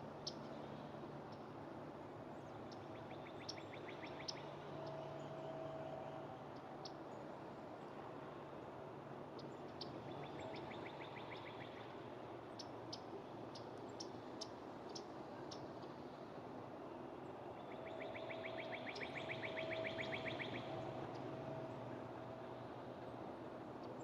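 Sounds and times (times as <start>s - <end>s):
faint outdoor background noise: 0.0s - 24.0s.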